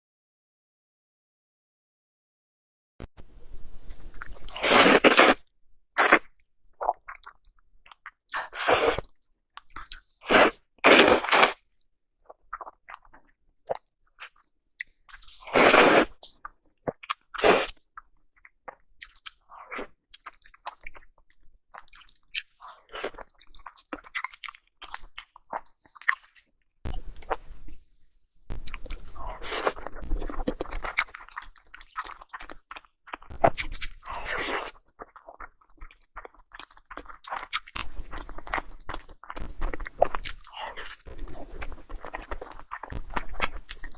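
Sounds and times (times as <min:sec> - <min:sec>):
wet chewing mouth sounds: 0:03.6 - 0:27.8, 0:28.5 - 0:43.9.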